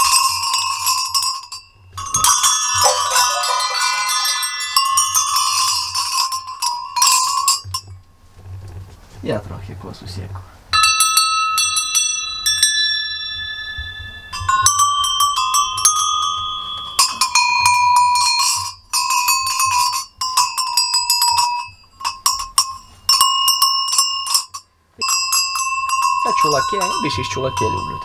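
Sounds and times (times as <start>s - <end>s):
brass sheep bells clanging: 0.0s - 7.8s, 10.8s - 28.0s.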